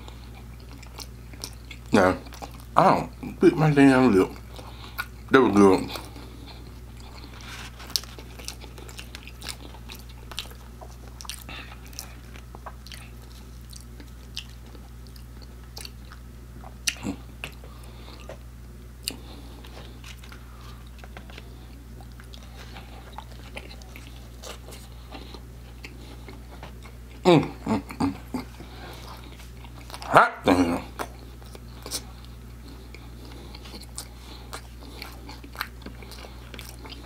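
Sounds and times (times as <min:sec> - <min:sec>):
crunchy chewing: 0:00.0 - 0:03.4, 0:04.2 - 0:37.0
steady low hum: 0:00.0 - 0:37.0.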